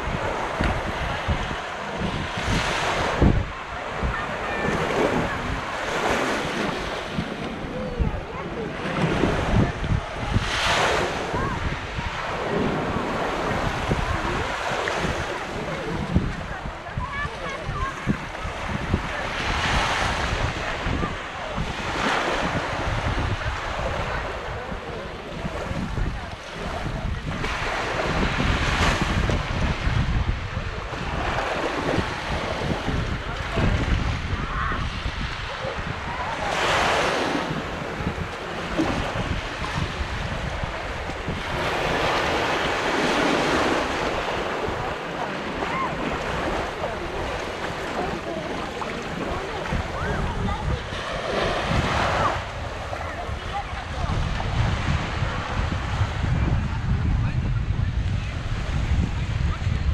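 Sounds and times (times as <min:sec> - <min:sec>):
sea waves breaking on shore: 0:00.0 - 0:59.9
wind buffeting microphone: 0:00.0 - 0:59.9.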